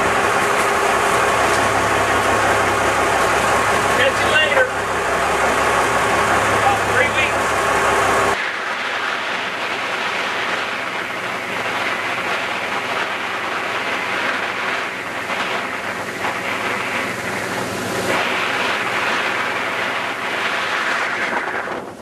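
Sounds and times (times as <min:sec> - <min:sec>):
boat engine hum: 0:00.0 - 0:22.0
rush of wind and water: 0:00.0 - 0:22.0.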